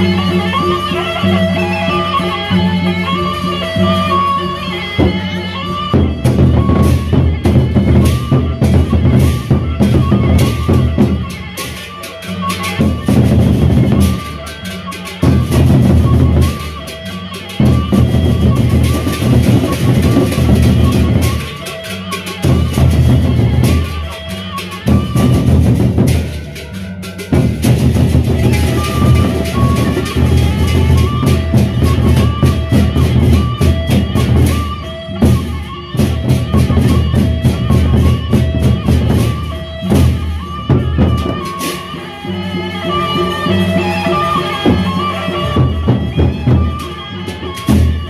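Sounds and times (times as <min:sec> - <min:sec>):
flute melody: 0:00.0 - 0:48.0
low ringing tones: 0:00.0 - 0:48.0
barrel drums beating fast: 0:05.0 - 0:42.0, 0:43.4 - 0:48.0.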